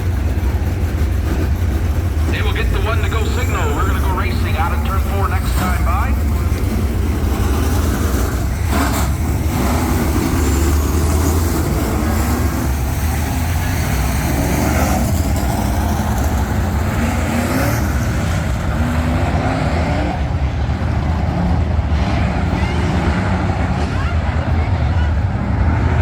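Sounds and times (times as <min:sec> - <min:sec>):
race truck engines revving: 0:00.0 - 0:26.0.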